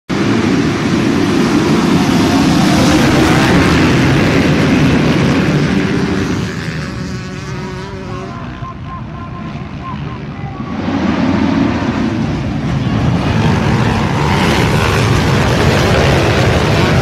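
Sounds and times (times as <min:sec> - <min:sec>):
motocross bikes accelerating: 0:00.1 - 0:17.0.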